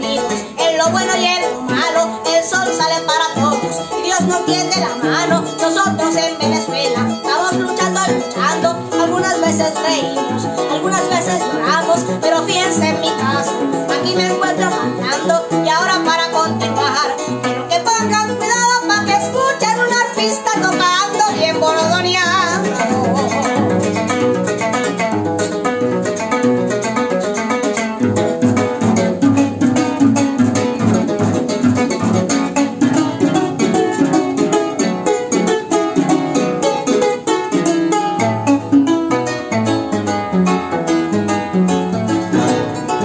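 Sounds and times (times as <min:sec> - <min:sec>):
fast harp music: 0:00.0 - 0:43.0.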